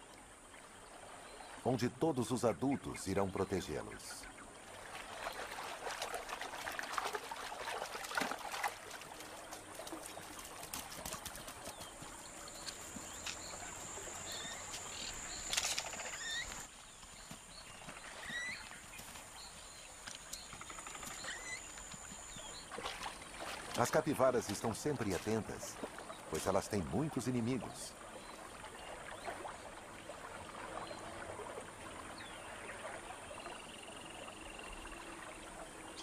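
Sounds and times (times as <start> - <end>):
water splashing and trickling: 0.0 - 36.0.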